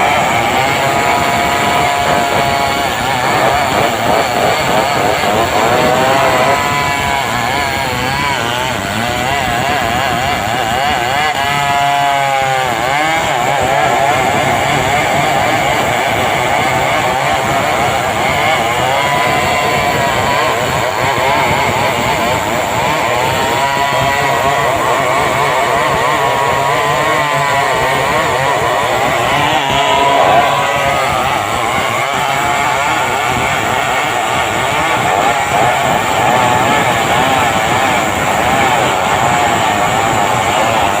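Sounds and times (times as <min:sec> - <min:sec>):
chainsaw ripping a log: 0:00.0 - 0:41.0.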